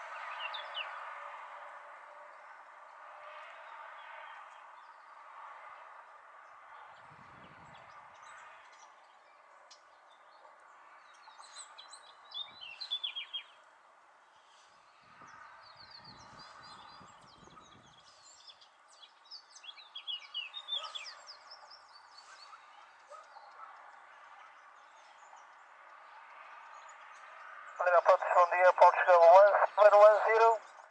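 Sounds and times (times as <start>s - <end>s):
small birds chirping and twittering: 0.0s - 1.1s, 3.6s - 5.3s, 5.9s - 30.9s.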